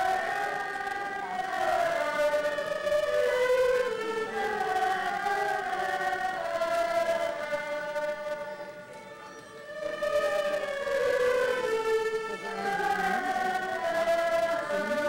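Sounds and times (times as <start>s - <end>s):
bowed fiddles ensemble melody: 0.0s - 15.0s.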